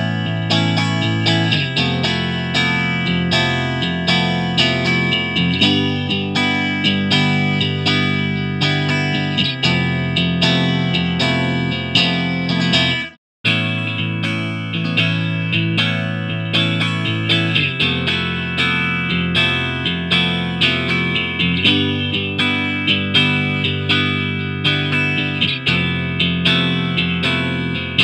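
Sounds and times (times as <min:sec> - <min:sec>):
loud electric guitar phrase: 0:00.0 - 0:28.0.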